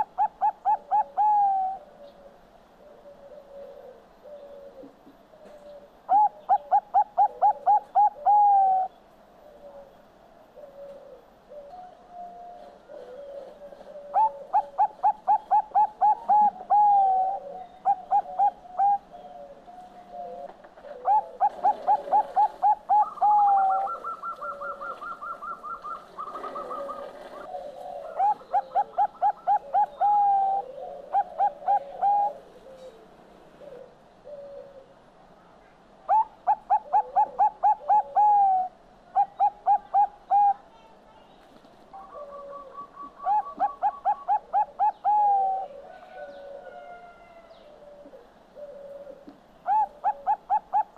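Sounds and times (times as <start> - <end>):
dove cooing song: 0.0 - 35.1, 36.0 - 40.9, 41.9 - 50.9
soft dove coos: 0.0 - 40.9, 41.6 - 50.9.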